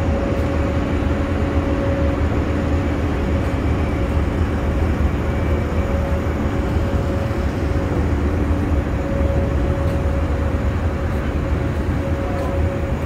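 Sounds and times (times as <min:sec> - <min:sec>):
mechanical drone with hum: 0:00.0 - 0:13.0.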